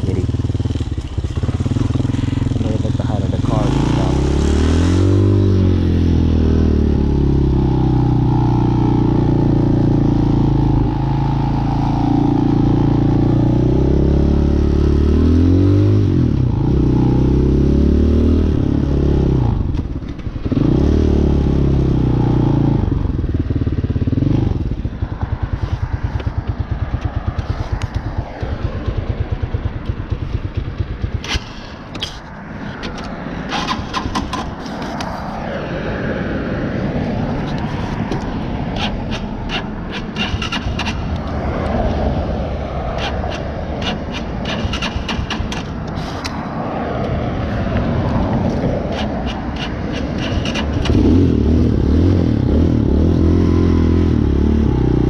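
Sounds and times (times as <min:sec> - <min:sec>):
motorcycle engine accelerating: 0:00.0 - 0:35.5, 0:37.2 - 0:55.0.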